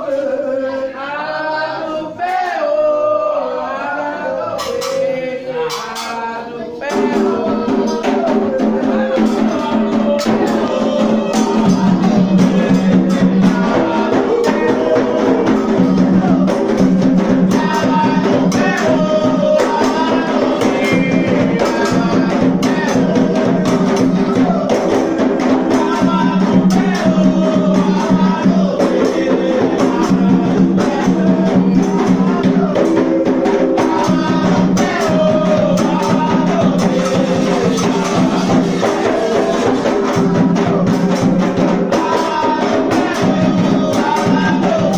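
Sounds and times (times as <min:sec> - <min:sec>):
ritual chant singing: 0:00.0 - 0:44.9
drums: 0:04.3 - 0:44.9
jingling percussion: 0:04.6 - 0:44.9.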